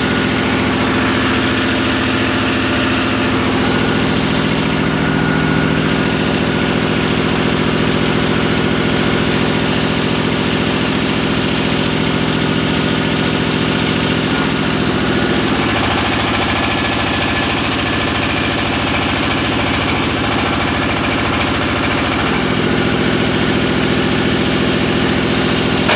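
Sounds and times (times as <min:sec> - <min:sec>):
large engine idling: 0:00.0 - 0:25.9.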